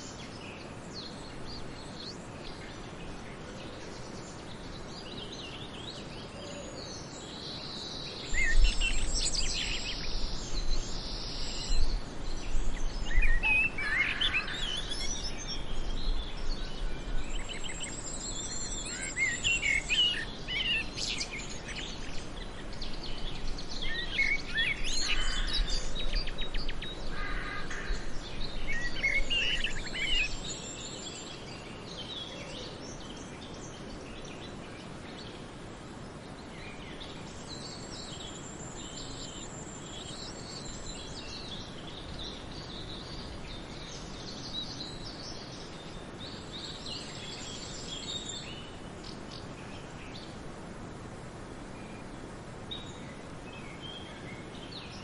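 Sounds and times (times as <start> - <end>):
small birds singing and chirping: 0.0 - 50.7, 51.6 - 55.0
steady background hiss: 0.0 - 55.0.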